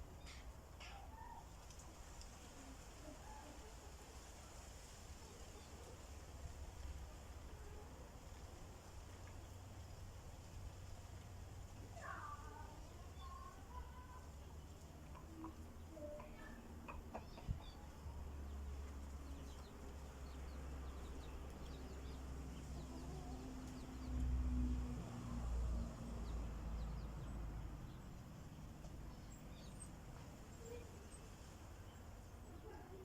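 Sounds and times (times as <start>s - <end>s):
small birds chirping: 5.2s - 33.0s.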